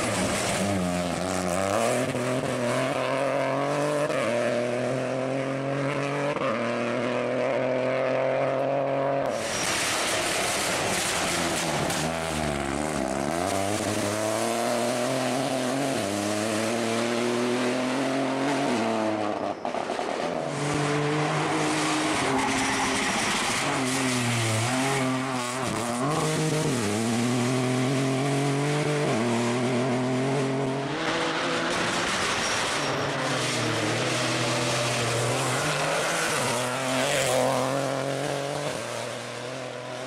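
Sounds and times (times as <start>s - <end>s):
rally car engine revving through gears: 0.0s - 40.0s.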